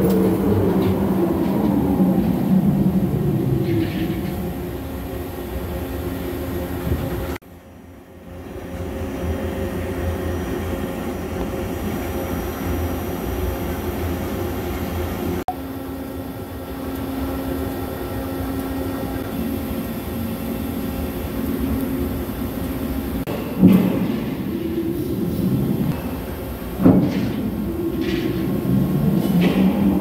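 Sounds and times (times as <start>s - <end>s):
machine shop machinery droning: 0.0s - 30.0s.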